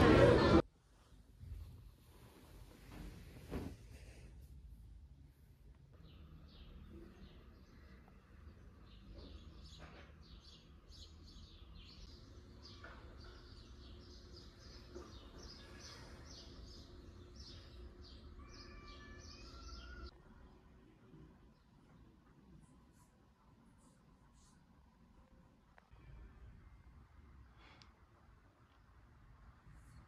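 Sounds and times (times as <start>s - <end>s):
faint birds chirping: 1.4s - 30.0s.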